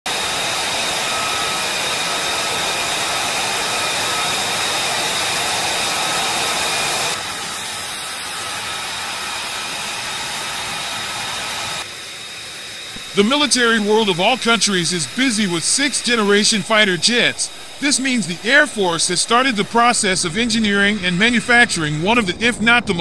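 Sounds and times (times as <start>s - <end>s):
jet engine rushing and whining: 0.1s - 23.0s.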